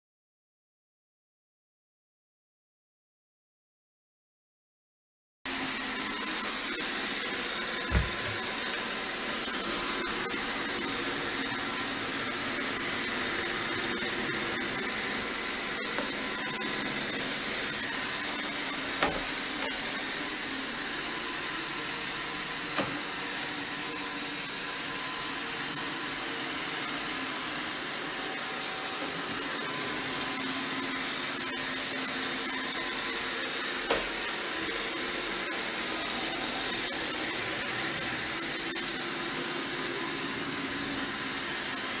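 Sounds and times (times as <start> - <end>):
robot vacuum whirring: 5.5 - 42.0.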